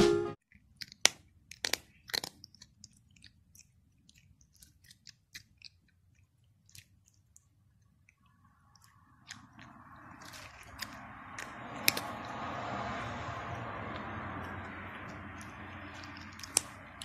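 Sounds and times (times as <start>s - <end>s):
cat crunching dry kibble: 0.5s - 17.0s.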